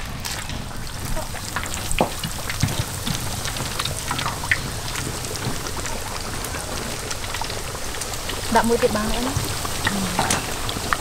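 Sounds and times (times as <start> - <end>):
oil sizzling with crackles: 0.0 - 11.0.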